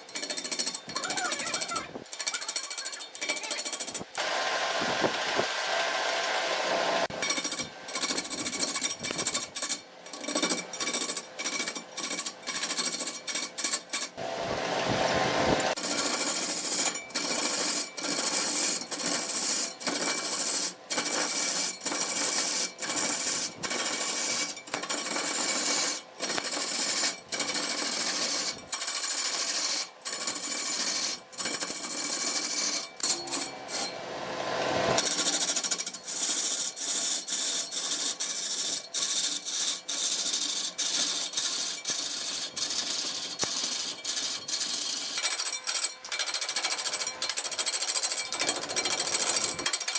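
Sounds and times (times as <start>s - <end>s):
woodworking tool grinding wood: 0.0s - 49.9s.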